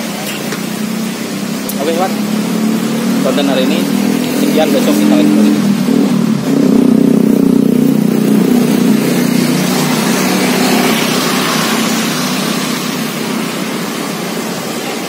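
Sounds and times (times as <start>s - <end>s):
traffic rushing past: 0.0s - 15.0s
vehicle engine hum: 0.0s - 15.0s.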